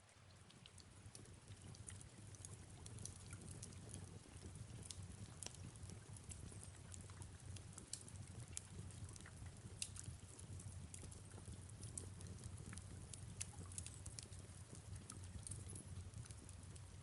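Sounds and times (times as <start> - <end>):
faint fireplace crackling: 0.0 - 17.0
soft hiss of rain: 0.0 - 17.0.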